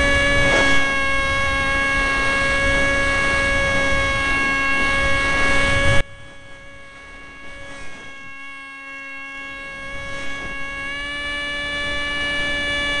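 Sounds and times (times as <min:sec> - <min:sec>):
electric motor whine: 0:00.0 - 0:13.0.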